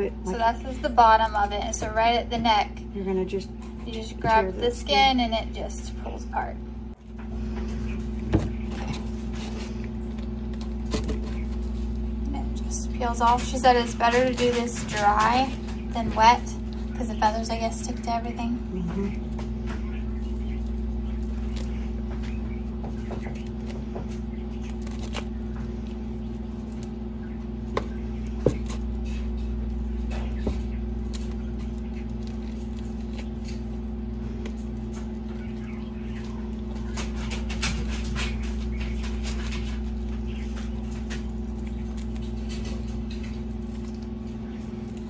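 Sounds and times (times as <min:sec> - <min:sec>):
steady low hum: 0:00.0 - 0:45.0
skin peeling crackling and ticks: 0:03.6 - 0:45.0.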